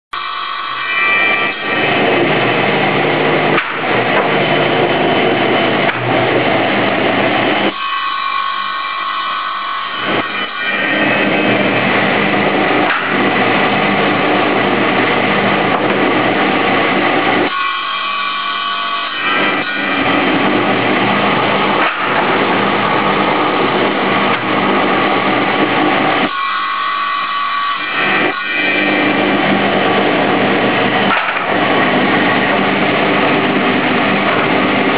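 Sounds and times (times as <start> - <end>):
saw blade spinning free whine: 0.2 - 34.9
table saw cutting boards: 0.2 - 34.9.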